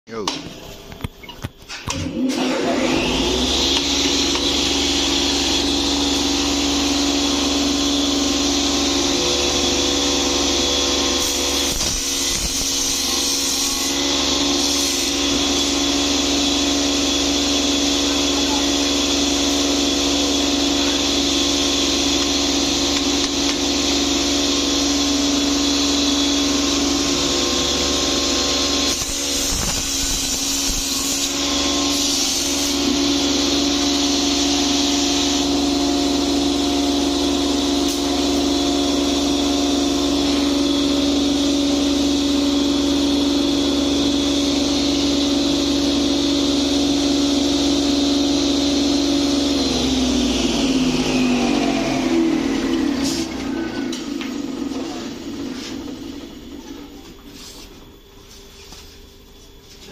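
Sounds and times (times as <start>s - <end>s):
rough machine noise: 1.9s - 57.6s
electric motor humming: 2.3s - 56.4s.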